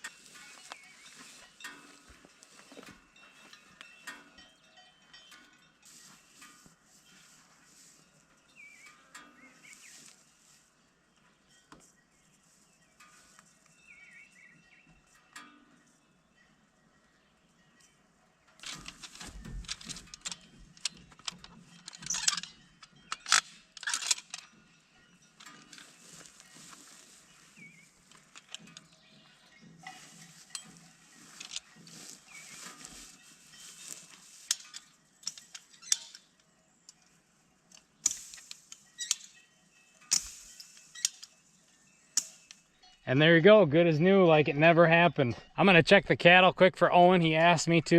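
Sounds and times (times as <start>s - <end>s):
metallic clinks and scraping: 0.0s - 43.2s.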